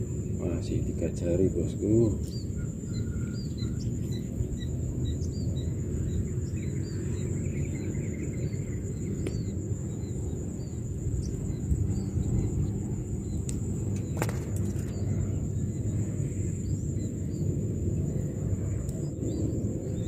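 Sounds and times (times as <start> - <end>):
high insect whine: 0.0 - 20.0
small birds chirping: 0.1 - 20.0.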